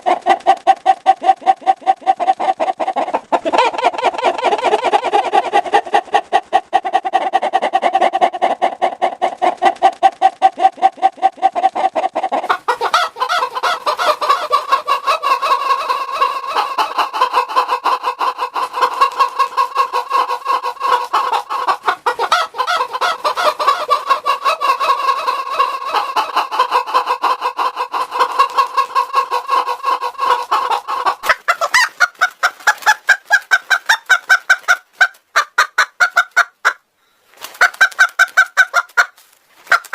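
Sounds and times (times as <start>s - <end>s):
hen clucking with voice changer: 0.0s - 36.9s, 37.5s - 39.9s.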